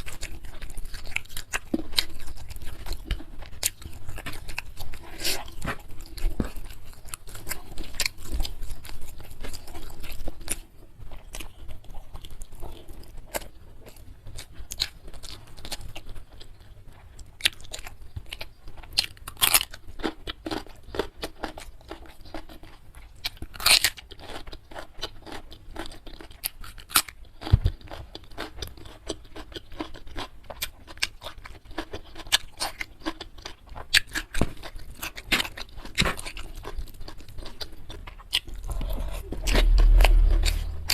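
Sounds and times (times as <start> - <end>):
chewing and crunching food: 0.0 - 40.3.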